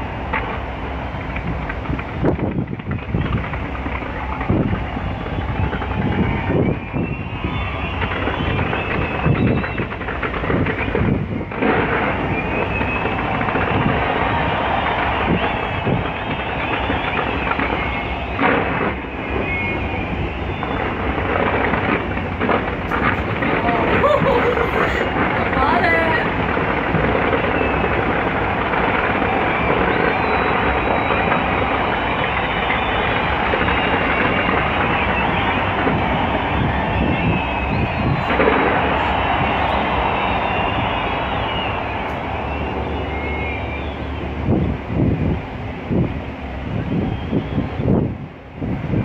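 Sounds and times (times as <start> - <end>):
fireworks crackling and banging: 0.0 - 49.0
high whistles: 4.1 - 26.3, 27.1 - 44.8, 46.7 - 48.1.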